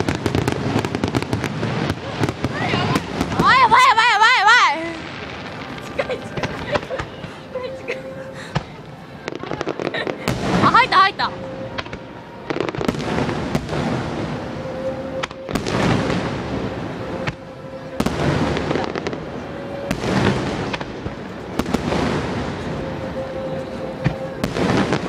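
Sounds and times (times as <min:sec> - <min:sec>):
continuous noisy wash: 0:00.0 - 0:25.0
fireworks bangs: 0:00.0 - 0:25.0.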